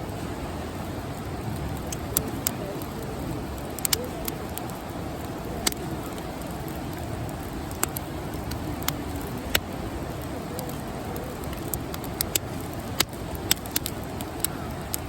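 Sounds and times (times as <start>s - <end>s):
campfire burning: 0.0s - 15.0s
fire pops and crackles: 0.8s - 15.0s.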